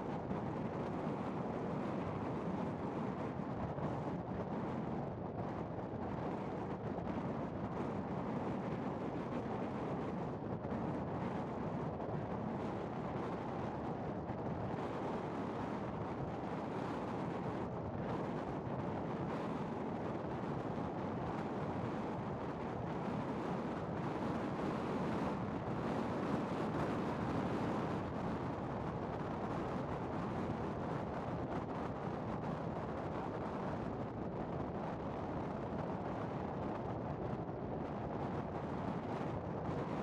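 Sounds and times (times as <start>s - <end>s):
wind buffeting microphone: 0.1s - 40.0s.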